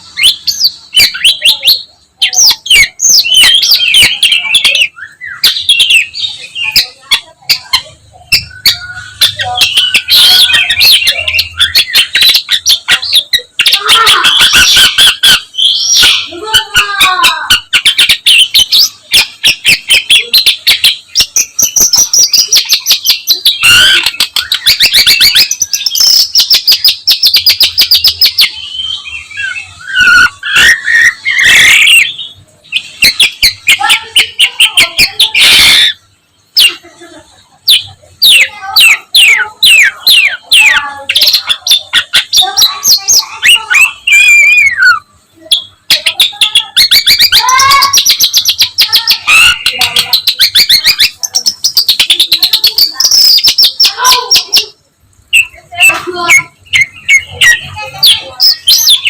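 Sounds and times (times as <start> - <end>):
bird singing chattering stream: 0.0 - 36.7, 37.7 - 59.0.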